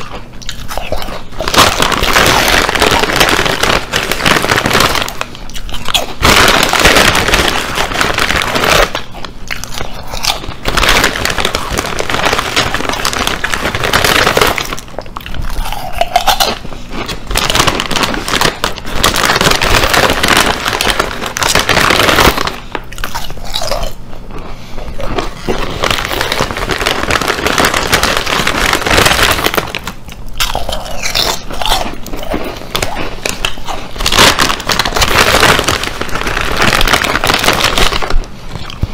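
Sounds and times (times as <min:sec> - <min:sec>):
chip bag crinkling: 0:00.0 - 0:38.9
crunching and chewing chips: 0:00.0 - 0:38.9.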